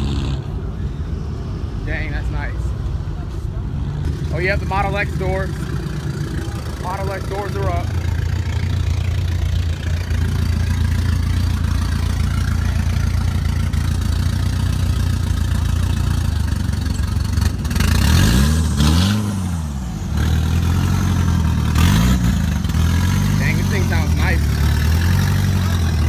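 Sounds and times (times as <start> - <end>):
engine revving: 0.0 - 0.8, 3.8 - 26.0
car engine idling: 0.0 - 26.0.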